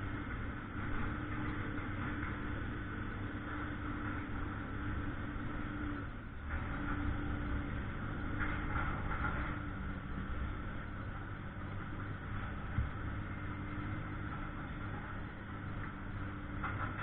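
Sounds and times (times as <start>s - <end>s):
heavy engine humming: 0.0s - 17.0s.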